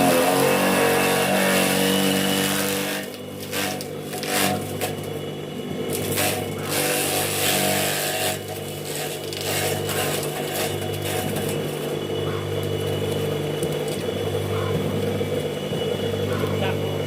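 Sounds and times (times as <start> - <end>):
loud noisy chopping bursts: 0.0 - 5.2, 5.8 - 17.0
grass chopper motor humming: 0.0 - 17.0.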